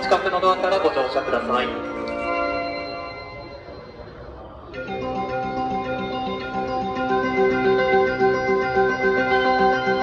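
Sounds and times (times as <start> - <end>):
departure melody over loudspeakers: 0.0 - 10.0.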